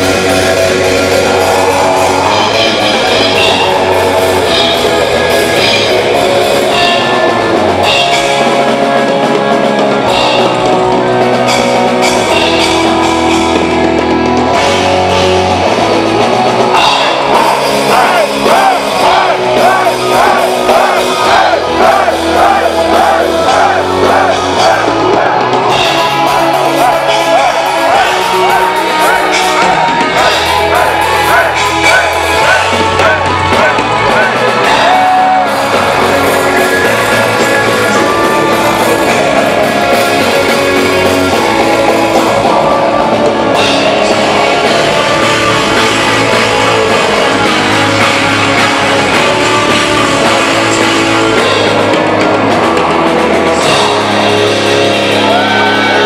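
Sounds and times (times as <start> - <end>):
fast guitar lead: 0.0 - 56.0
metal band playing loud: 0.0 - 56.0.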